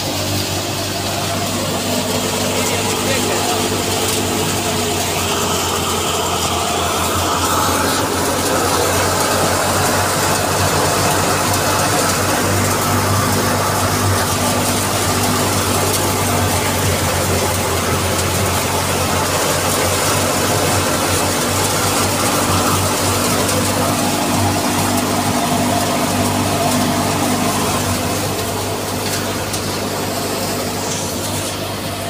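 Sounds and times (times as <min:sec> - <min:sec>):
belt-driven machine running: 0:00.0 - 0:32.0.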